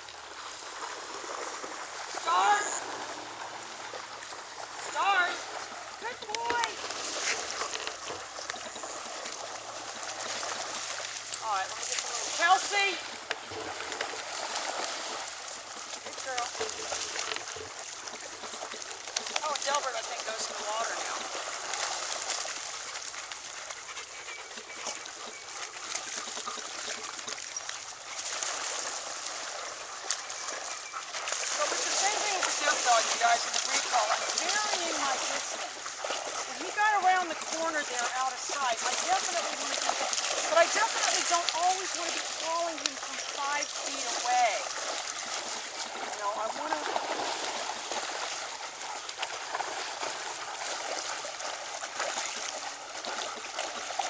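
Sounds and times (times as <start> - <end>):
steady outdoor hiss: 0.0 - 53.1
dogs splashing through water: 0.0 - 54.0.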